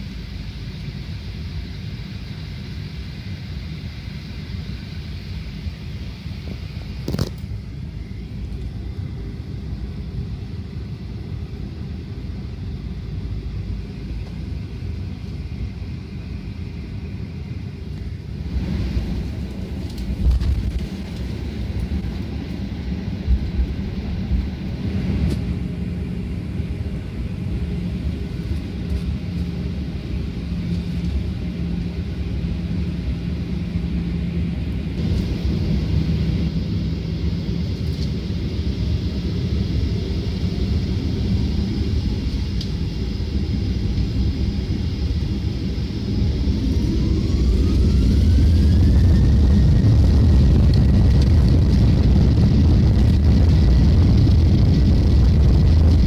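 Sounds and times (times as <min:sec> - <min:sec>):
jet engine low rumble: 0:00.0 - 0:56.0.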